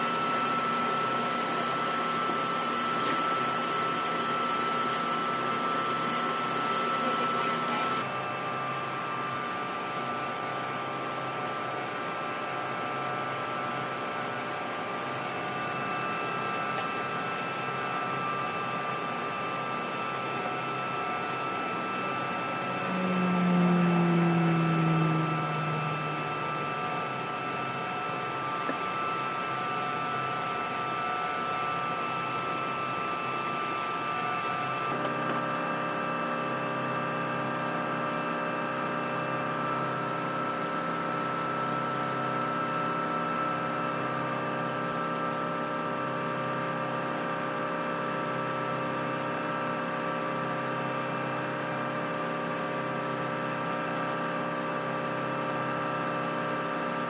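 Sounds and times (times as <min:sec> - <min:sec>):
helicopter turbine whine and hum: 0:00.0 - 0:57.0.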